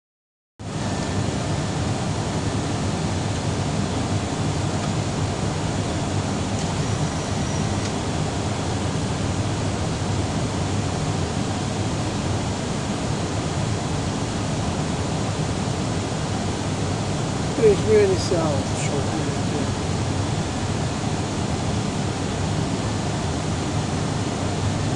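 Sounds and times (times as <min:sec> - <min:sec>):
airliner cabin noise: 0:00.6 - 0:24.9.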